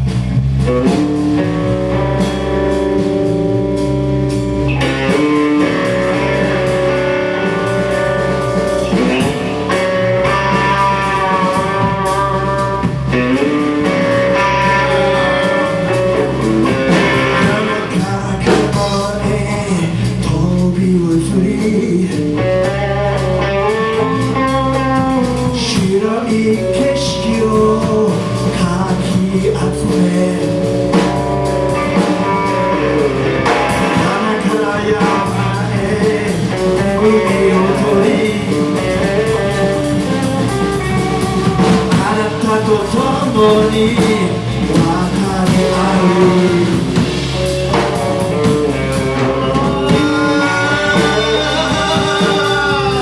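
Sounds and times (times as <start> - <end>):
bass line: 0.0 - 53.0
electric guitar: 0.0 - 53.0
person singing: 4.6 - 53.0.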